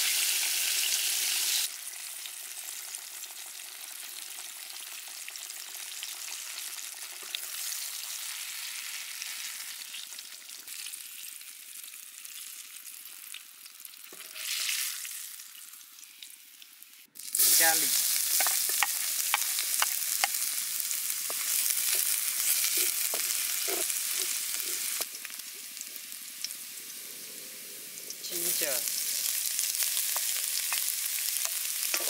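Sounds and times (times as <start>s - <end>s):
oil sizzling in a wok: 0.0s - 32.0s.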